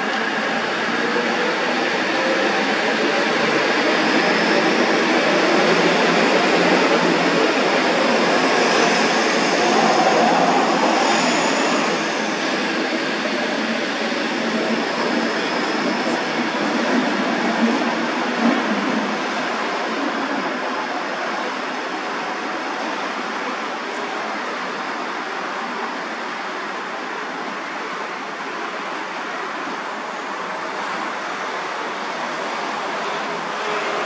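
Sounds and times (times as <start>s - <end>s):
diesel railcar running noise: 0.0s - 34.0s.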